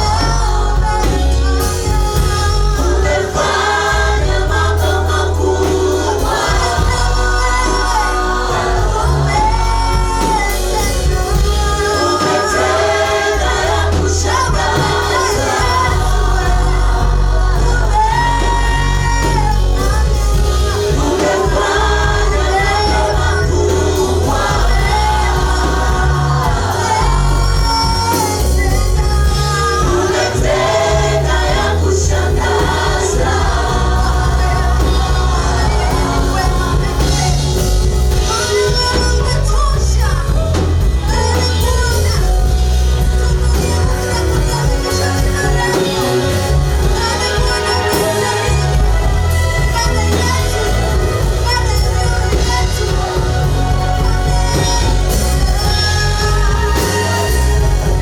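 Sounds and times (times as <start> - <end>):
amplified band: 0.0 - 58.0
group singing worship song: 0.0 - 58.0
heavy bass line: 0.0 - 58.0.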